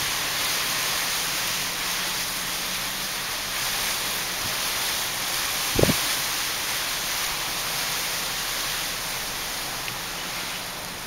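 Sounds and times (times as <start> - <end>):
gusty wind through trees: 0.0 - 11.0.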